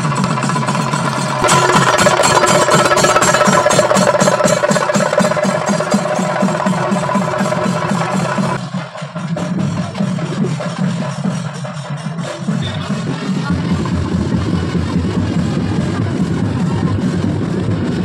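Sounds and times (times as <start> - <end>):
fast drum beat: 0.0 - 18.0.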